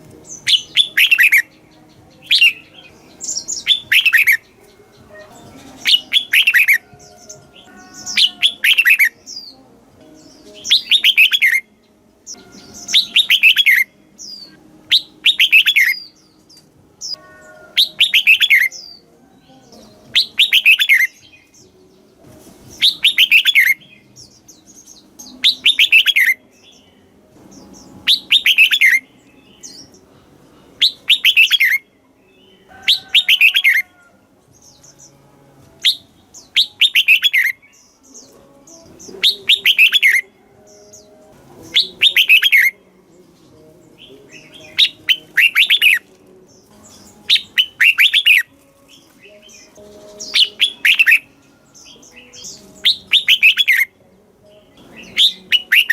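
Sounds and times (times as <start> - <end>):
bird singing bright descending notes: 0.0 - 9.6, 10.2 - 19.0, 19.6 - 21.8, 22.7 - 26.9, 27.5 - 30.0, 30.8 - 34.0, 35.8 - 42.8, 44.1 - 53.9
quiet bird chips: 0.0 - 9.6, 10.2 - 11.7, 12.4 - 19.0, 20.1 - 21.7, 22.4 - 26.9, 30.8 - 35.0, 35.8 - 40.2, 40.9 - 53.9, 54.8 - 55.9.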